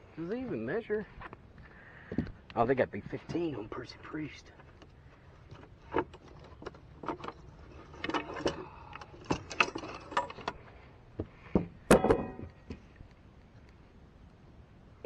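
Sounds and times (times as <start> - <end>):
handling clicks and rustling: 0.2 - 14.4.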